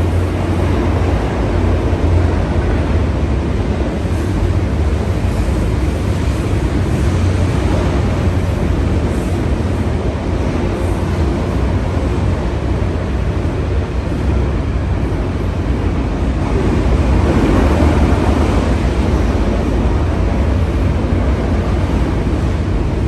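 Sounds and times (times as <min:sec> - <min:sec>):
train rumbling past: 0:00.0 - 0:23.0
wind noise on microphone: 0:00.0 - 0:23.0.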